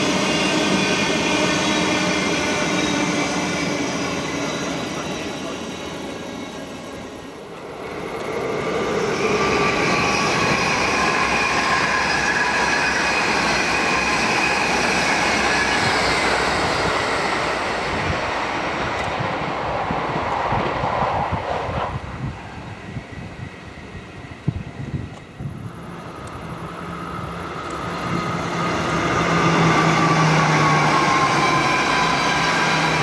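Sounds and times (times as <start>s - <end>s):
electric train passing: 0.0s - 33.0s
rail noise: 0.0s - 33.0s.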